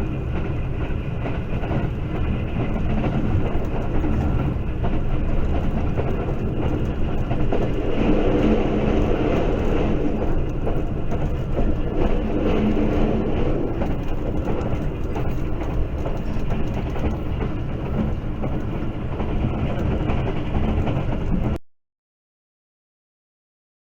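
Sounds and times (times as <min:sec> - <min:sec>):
passenger train rumbling on track: 0:00.0 - 0:21.6.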